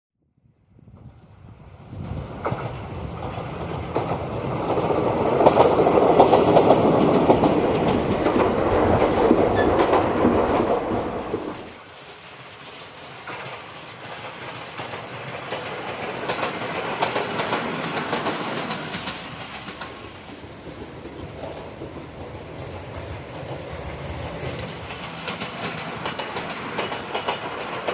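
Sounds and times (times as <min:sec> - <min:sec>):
electric train passing: 0:00.8 - 0:27.9
wheels clacking over rail joints: 0:02.4 - 0:27.9.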